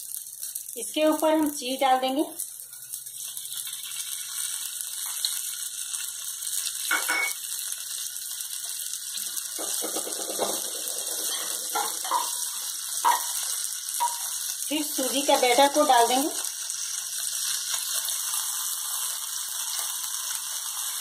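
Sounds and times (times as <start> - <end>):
batter sizzling in oil: 0.0 - 21.0.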